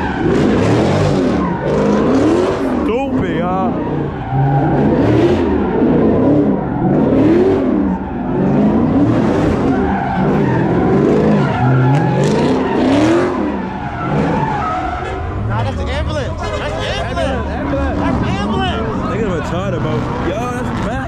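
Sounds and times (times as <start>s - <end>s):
car engine revving: 0.0s - 21.0s
tyres screeching: 0.0s - 21.0s.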